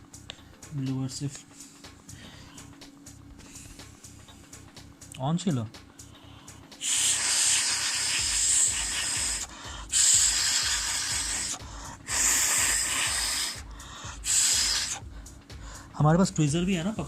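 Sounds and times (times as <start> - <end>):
air blower hissing: 1.2 - 4.7, 5.8 - 17.0.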